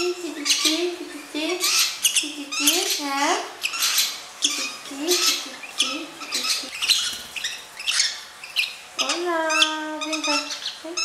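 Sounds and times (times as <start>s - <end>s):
bird chicks squawking: 0.0s - 11.0s.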